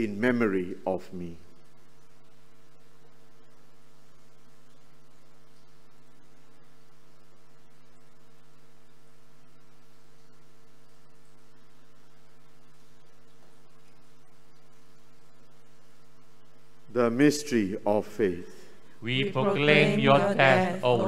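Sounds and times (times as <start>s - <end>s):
electrical hum: 0.0s - 21.0s
faint hiss: 0.0s - 21.0s.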